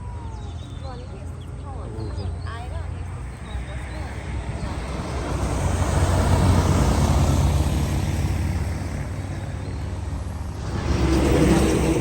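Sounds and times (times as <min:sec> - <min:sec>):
vehicle engine running: 0:02.1 - 0:12.0.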